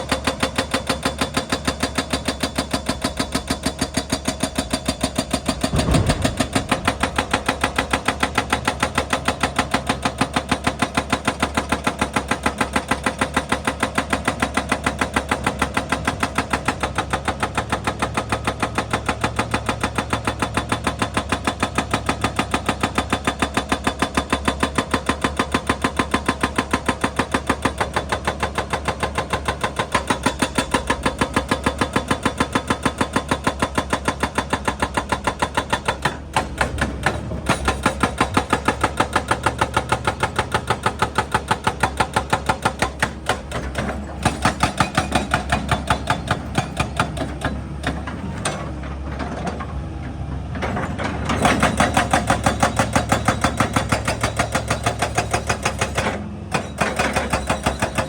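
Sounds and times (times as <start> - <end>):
hydraulic breaker hammering rock: 0.0 - 49.5, 50.5 - 58.0.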